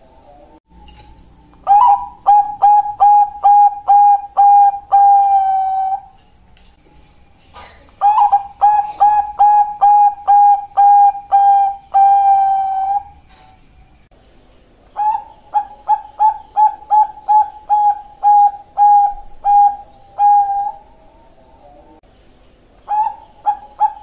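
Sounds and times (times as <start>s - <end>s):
dove cooing: 0.0s - 0.6s, 1.6s - 6.2s, 7.6s - 13.6s, 14.9s - 22.0s, 22.8s - 24.0s.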